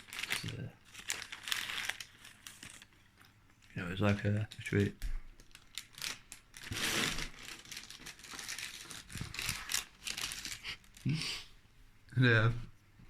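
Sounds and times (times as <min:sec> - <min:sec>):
food wrapper crinkling: 0:00.0 - 0:11.1.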